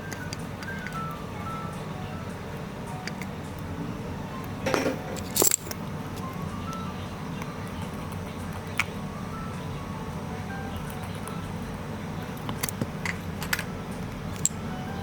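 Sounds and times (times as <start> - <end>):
chiming background music: 0.0 - 12.4, 13.3 - 15.0.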